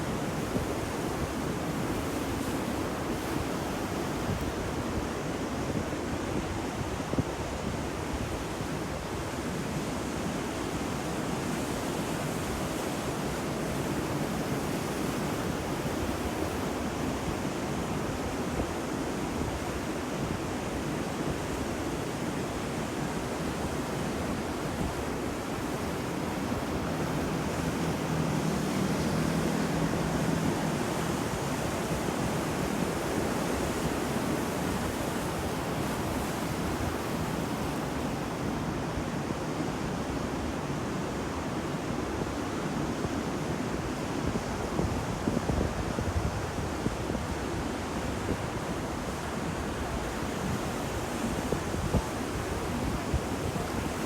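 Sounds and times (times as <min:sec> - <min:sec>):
ocean waves breaking on shore: 0:00.0 - 0:54.0
wind: 0:00.0 - 0:54.0.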